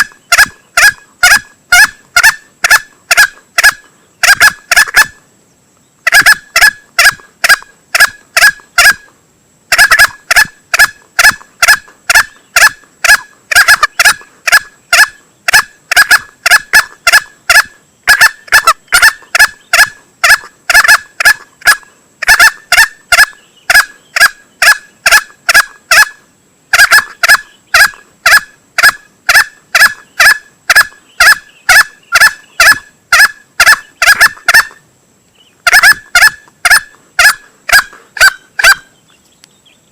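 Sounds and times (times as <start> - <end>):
junglefowl calling: 0.0 - 5.2, 6.0 - 39.1.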